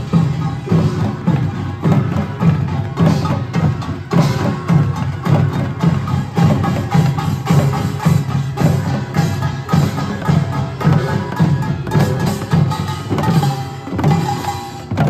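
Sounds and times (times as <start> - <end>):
parade drums: 0.0 - 15.0.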